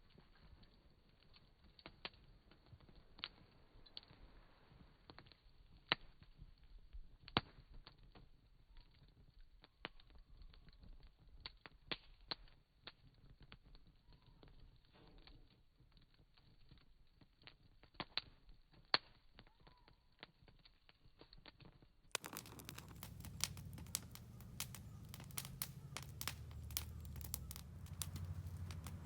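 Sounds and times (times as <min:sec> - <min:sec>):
campfire crackling: 0:00.0 - 0:29.0
sharp popping of fire: 0:00.0 - 0:29.0.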